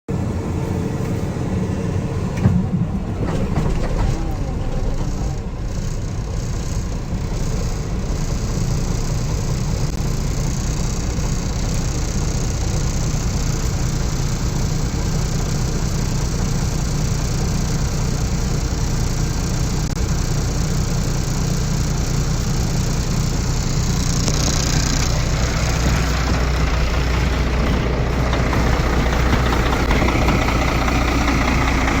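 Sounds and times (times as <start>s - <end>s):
diesel truck engine idling: 0.1s - 32.0s.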